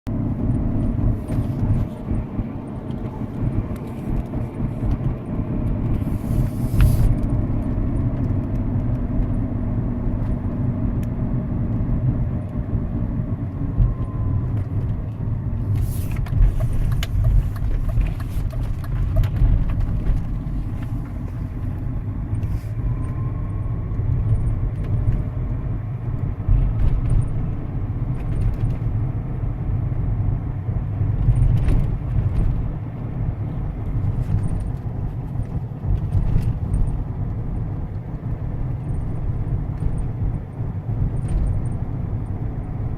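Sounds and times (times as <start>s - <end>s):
car cabin rumble: 0.1s - 42.9s.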